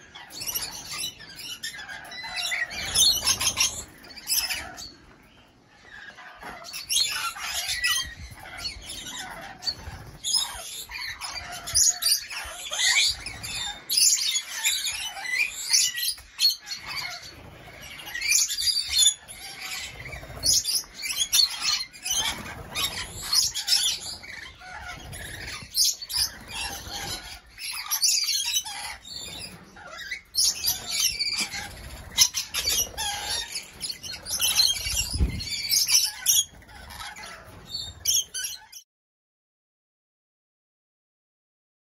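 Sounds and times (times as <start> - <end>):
lorikeets screeching and chattering: 0.0 - 38.8.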